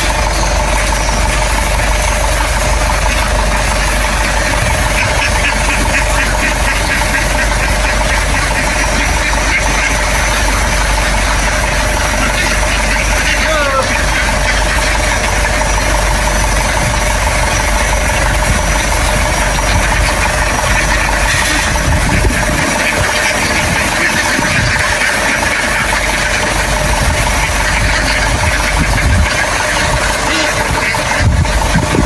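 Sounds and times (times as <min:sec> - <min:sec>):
motor engine running steadily: 0:00.0 - 0:32.0.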